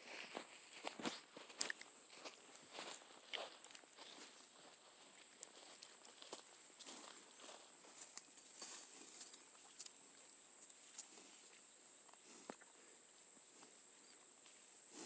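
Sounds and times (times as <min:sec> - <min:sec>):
cattle hooves stepping: 0:00.2 - 0:12.6.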